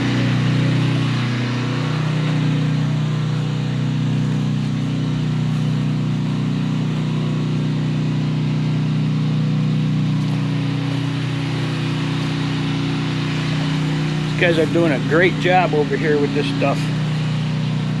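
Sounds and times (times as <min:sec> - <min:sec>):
generator running: 0:00.0 - 0:18.0.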